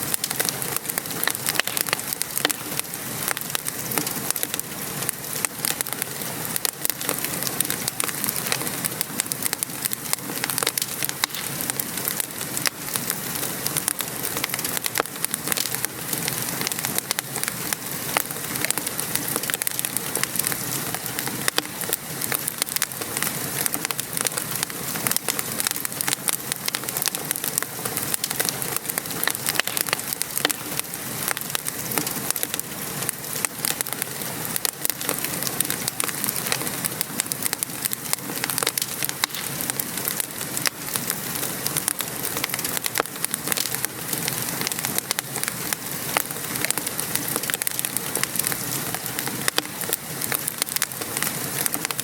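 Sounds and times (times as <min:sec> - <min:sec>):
rain patter: 0:00.0 - 0:52.0
wood fire crackling: 0:00.0 - 0:52.0.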